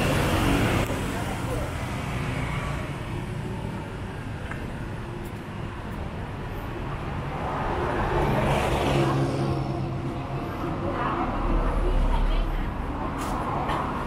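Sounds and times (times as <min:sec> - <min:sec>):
cars and motorcycles passing: 0:00.0 - 0:14.0.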